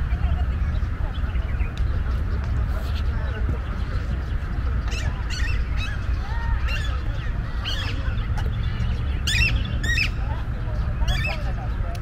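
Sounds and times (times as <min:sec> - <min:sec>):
birds squawky chirps: 0:00.0 - 0:11.9.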